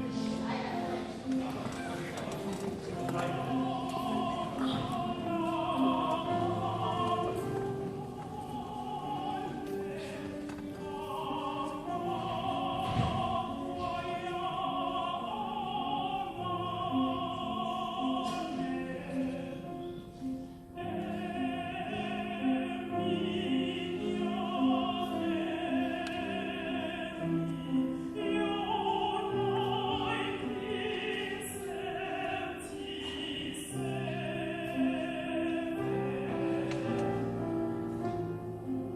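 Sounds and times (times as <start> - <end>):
singing with vibrato: 2.9 - 37.7.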